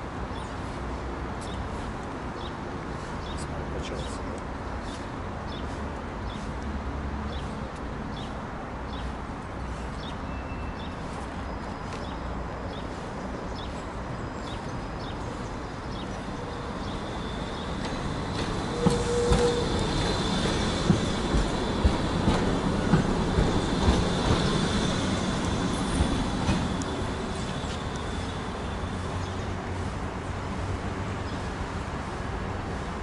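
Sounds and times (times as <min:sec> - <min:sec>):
tram high steady whine: 0:00.0 - 0:33.0.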